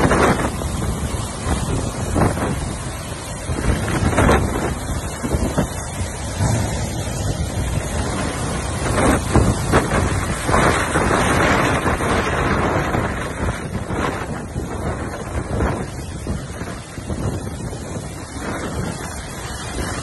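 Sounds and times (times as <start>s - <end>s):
heavy rain lashing street: 0.0s - 20.0s
wind gusting on microphone: 0.0s - 20.0s.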